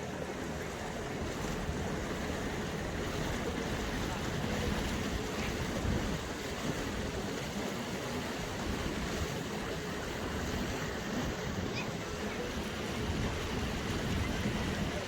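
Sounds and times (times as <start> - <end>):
water rushing past boat: 0.0 - 15.0
wind: 0.0 - 15.0.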